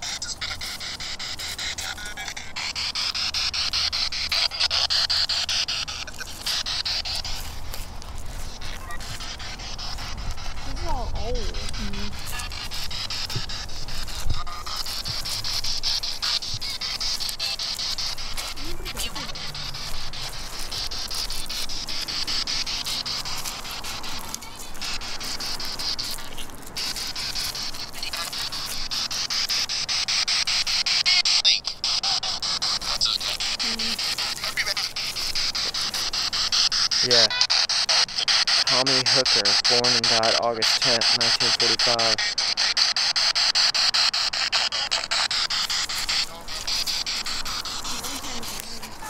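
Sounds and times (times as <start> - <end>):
radio static hissing: 0.0 - 49.0
rapid clicks: 0.0 - 49.0.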